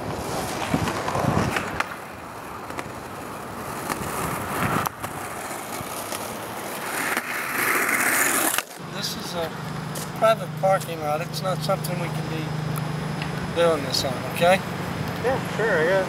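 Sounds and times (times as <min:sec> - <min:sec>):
skateboard wheels on asphalt: 0:00.0 - 0:16.0.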